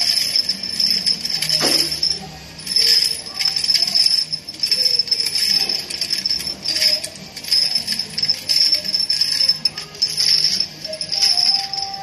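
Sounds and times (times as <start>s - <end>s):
steel rivets clinking in hand: 0.0s - 12.0s.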